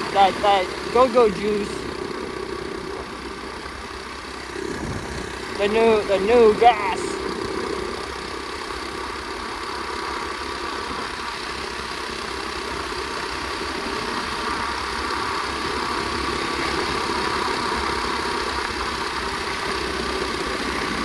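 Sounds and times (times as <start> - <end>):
pit bike engine running: 0.0 - 21.0.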